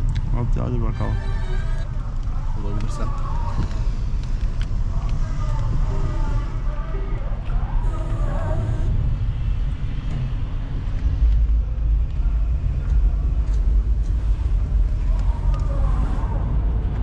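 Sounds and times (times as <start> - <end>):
faint voices: 0.0 - 10.6, 11.6 - 17.0
car interior road and engine rumble: 0.0 - 17.0.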